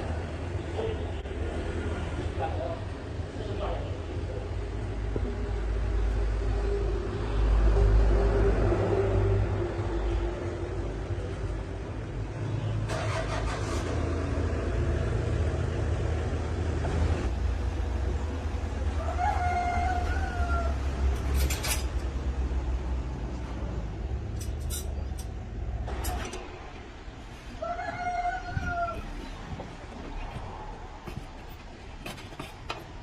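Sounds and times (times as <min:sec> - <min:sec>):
engine low rumble: 0:00.0 - 0:33.0.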